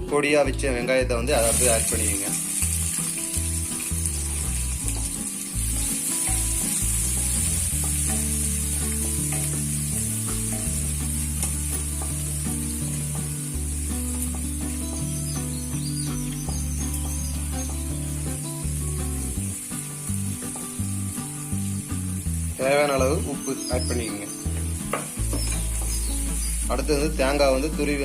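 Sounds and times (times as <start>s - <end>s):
soft background music: 0.0s - 28.0s
onions sizzling in oil: 1.4s - 28.0s.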